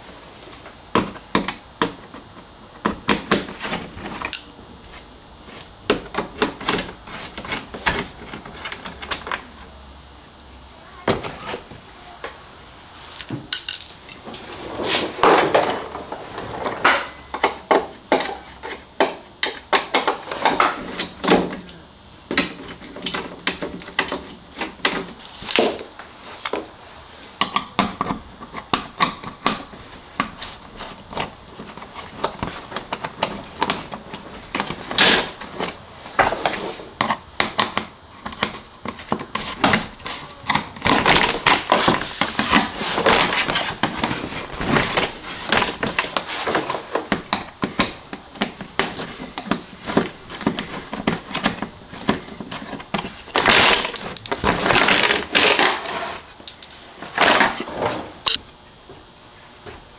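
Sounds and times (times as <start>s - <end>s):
hand tools and parts clattering: 0.3s - 10.0s, 11.0s - 26.8s, 27.4s - 58.4s.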